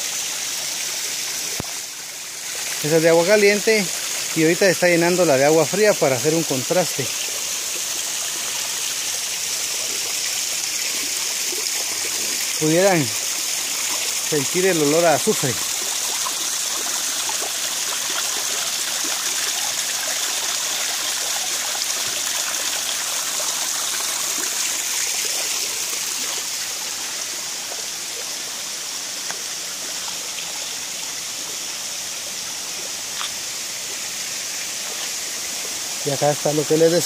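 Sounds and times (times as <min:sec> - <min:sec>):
water running over rocks: 0:00.0 - 0:37.0.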